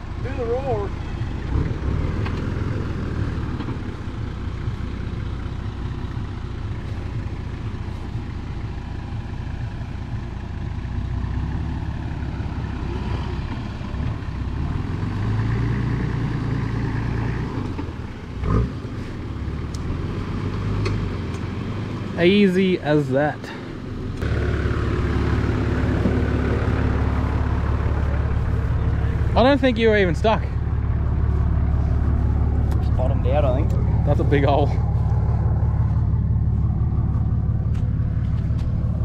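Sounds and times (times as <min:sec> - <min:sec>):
vehicle engine revving under load: 0:00.0 - 0:06.0, 0:11.1 - 0:22.2, 0:23.5 - 0:39.0.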